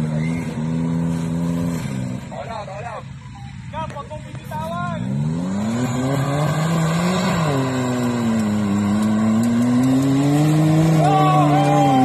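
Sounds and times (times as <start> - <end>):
off-road vehicle engine accelerating: 0.0 - 12.0.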